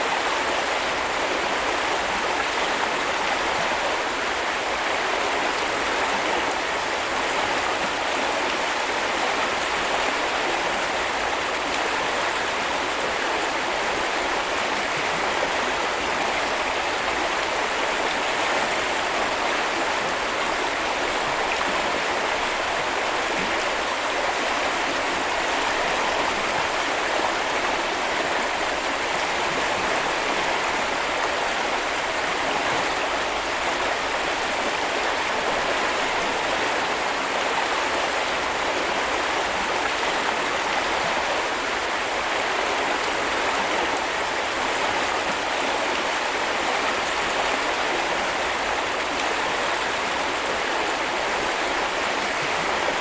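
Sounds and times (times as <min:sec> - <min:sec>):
brook flowing over stones: 0:00.0 - 0:53.0.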